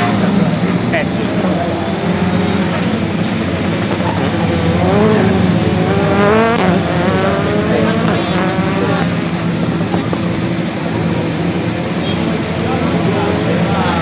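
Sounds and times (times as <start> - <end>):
rally car engine revving: 0.0 - 14.0
steady low drone: 0.0 - 14.0.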